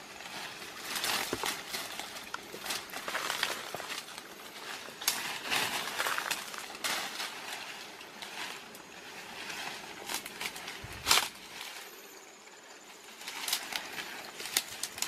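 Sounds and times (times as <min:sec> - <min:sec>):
leafy branches rustling and crackling: 0:00.0 - 0:15.0.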